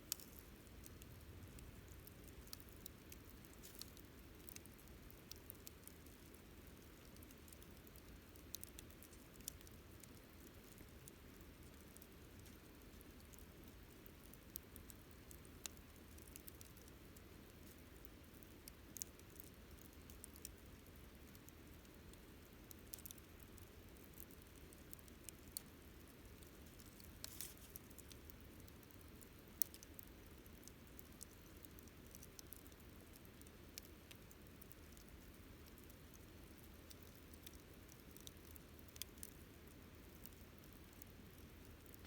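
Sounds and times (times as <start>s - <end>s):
campfire crackling: 0.0s - 42.0s
low steady hiss: 0.0s - 42.0s.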